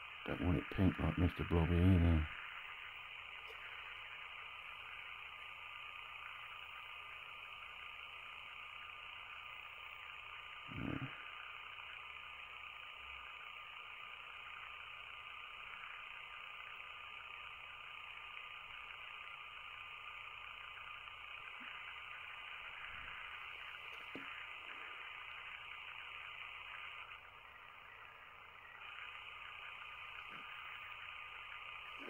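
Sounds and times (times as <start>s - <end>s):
background hiss: 0.0s - 32.0s
faint high whine: 0.0s - 32.0s.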